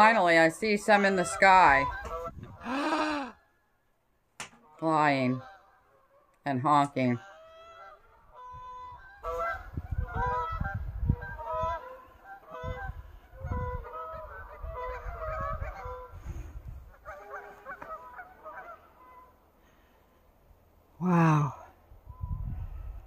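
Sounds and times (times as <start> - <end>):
geese honking: 0.0 - 3.6, 4.5 - 20.0.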